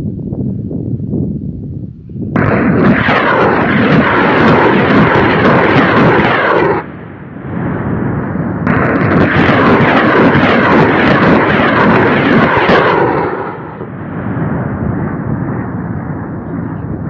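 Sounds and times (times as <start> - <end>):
low rumble: 0.0 - 17.0
rockets launching with rushing noise: 2.3 - 17.0.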